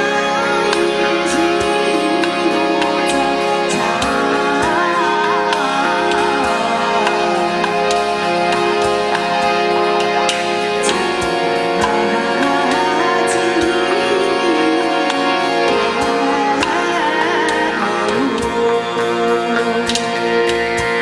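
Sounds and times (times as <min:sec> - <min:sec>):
gliding melody line: 0:00.0 - 0:21.0
harmonium sustained chords: 0:00.0 - 0:21.0.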